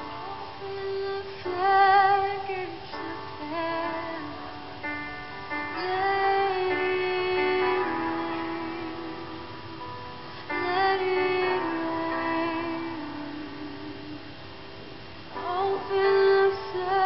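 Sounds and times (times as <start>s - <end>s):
woman singing long notes: 0.0s - 4.8s, 5.7s - 9.8s, 10.5s - 14.5s, 15.4s - 17.0s.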